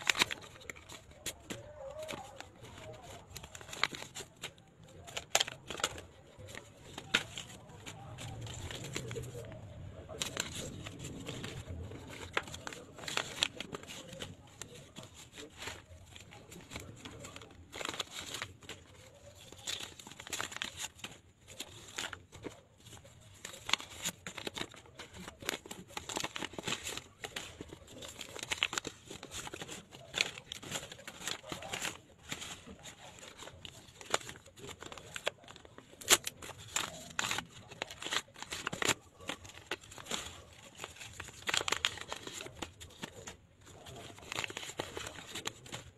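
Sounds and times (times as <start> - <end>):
banknotes rustling: 0.0 - 45.9
paper envelopes tearing: 0.0 - 45.9.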